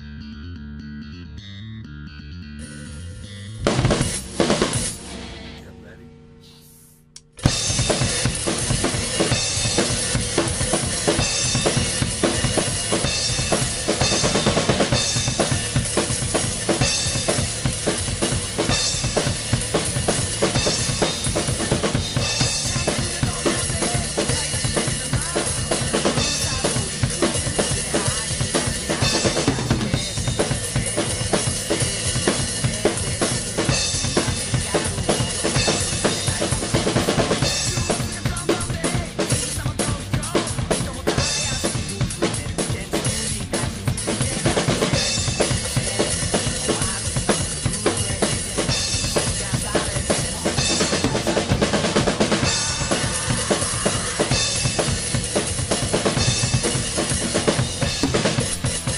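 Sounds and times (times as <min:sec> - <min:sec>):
rock song backing track: 0:03.6 - 0:05.4, 0:07.2 - 0:58.9
drum kit played hard: 0:03.6 - 0:05.8, 0:07.3 - 0:58.9.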